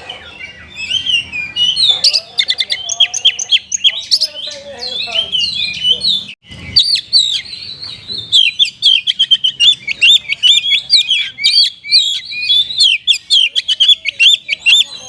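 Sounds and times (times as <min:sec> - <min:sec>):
magpie-robin singing chirps and whistles: 0:00.0 - 0:15.0.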